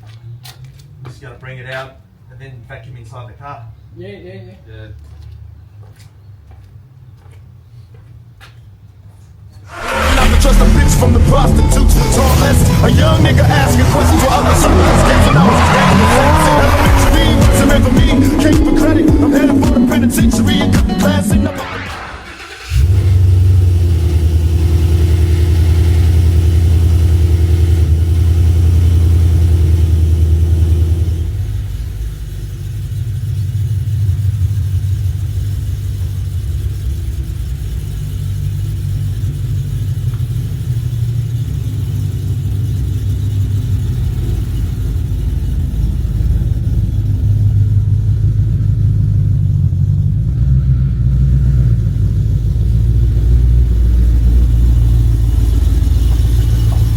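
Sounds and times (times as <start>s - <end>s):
car engine idling: 9.0s - 56.9s.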